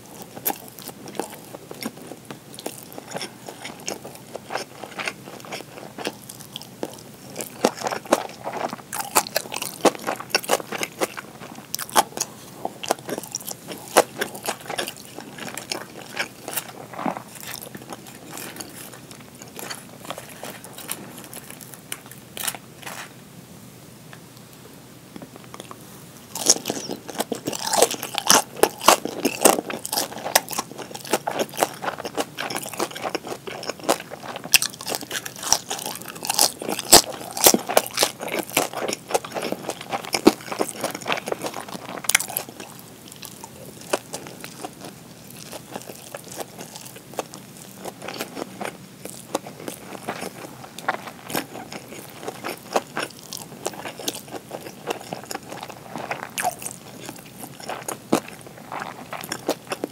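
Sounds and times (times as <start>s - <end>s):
chewing crispy dumplings: 0.0s - 23.2s, 25.2s - 59.9s.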